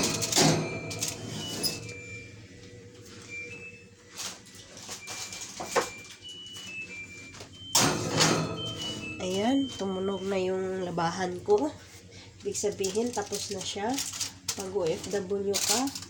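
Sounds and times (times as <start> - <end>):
washing machine electronic beeps: 0.0 - 16.0.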